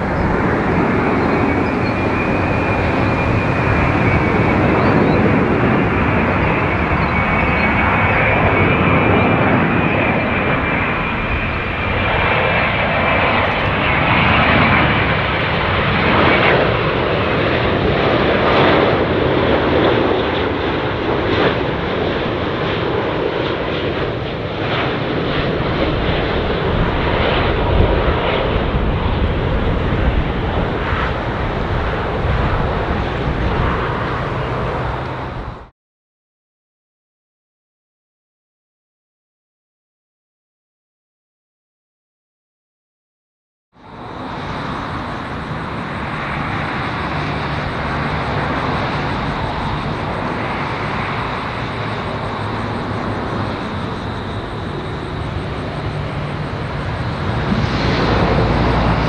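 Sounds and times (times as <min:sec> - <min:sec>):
jet engines roaring: 0:00.0 - 0:35.7, 0:43.8 - 0:59.0
thin high engine whine: 0:00.0 - 0:35.7, 0:43.8 - 0:59.0.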